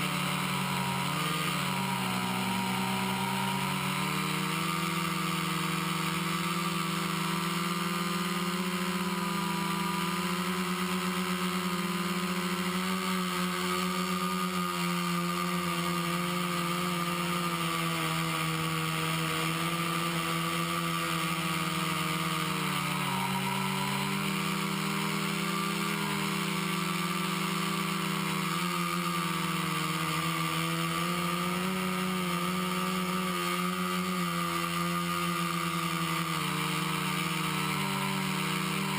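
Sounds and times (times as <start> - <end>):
quadcopter motors buzzing: 0.0 - 38.9.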